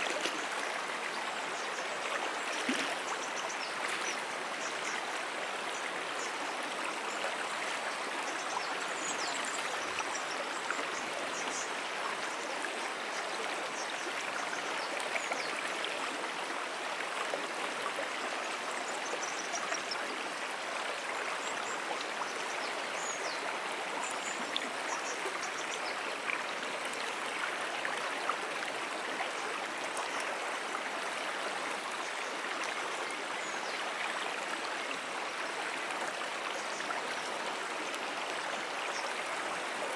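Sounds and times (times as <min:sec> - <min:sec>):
brook water babbling: 0:00.0 - 0:39.9.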